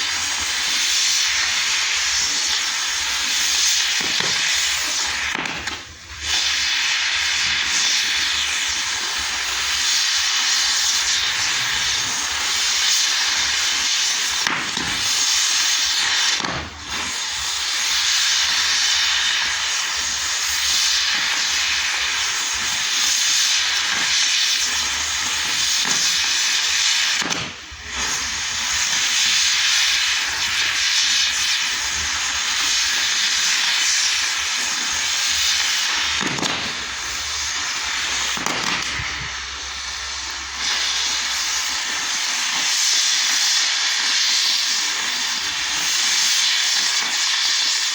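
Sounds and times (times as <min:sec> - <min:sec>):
firework fountains hissing: 0:00.0 - 0:47.9.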